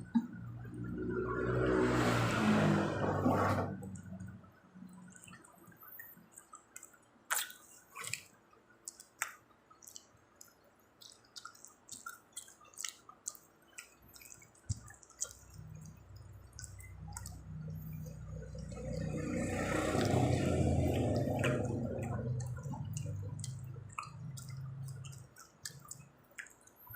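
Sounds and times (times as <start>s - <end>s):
low steady hum: 0.0s - 6.6s, 7.6s - 26.9s
chewing food: 3.7s - 26.9s
wet mouth clicks and smacks: 5.0s - 26.9s.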